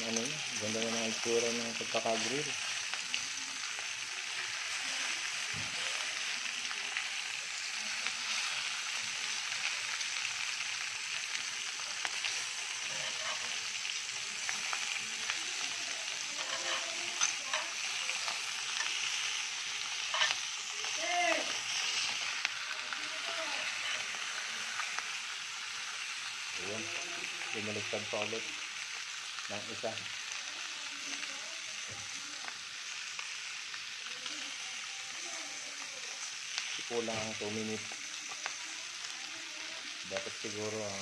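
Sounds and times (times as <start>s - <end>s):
steaks sizzling in a grill pan: 0.0s - 41.0s.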